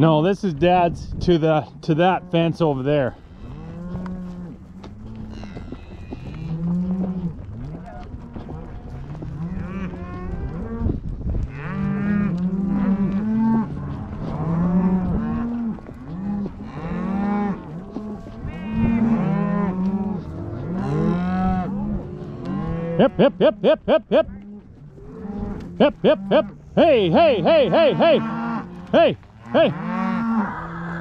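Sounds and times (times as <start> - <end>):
cows and calves mooing: 1.6 - 31.0.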